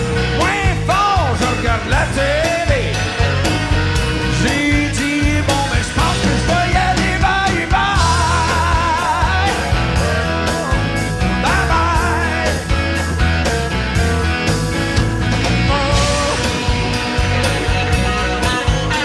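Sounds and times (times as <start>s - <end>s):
man singing: 0.0s - 3.4s, 4.2s - 13.0s, 15.4s - 19.0s
guitar: 0.0s - 19.0s.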